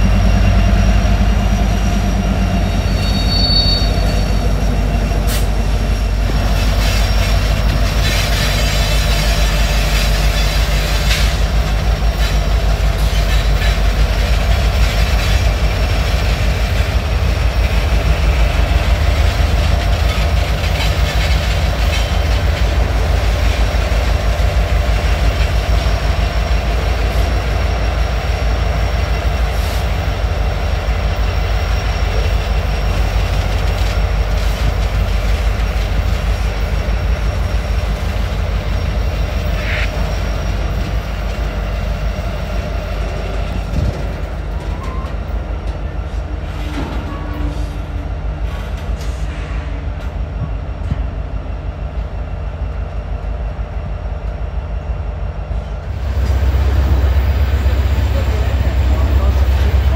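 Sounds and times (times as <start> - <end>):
locomotive engines rumbling: 0.0 - 59.9
train wheels rolling on rails: 0.0 - 59.9.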